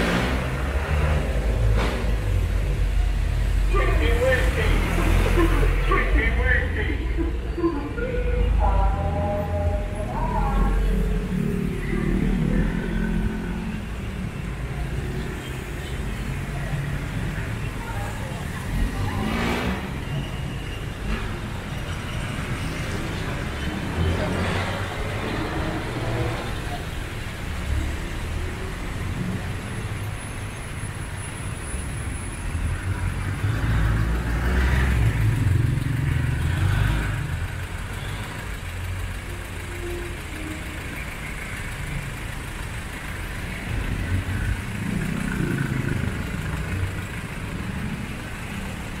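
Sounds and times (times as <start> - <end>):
motor vehicles passing: 0.0 - 49.0.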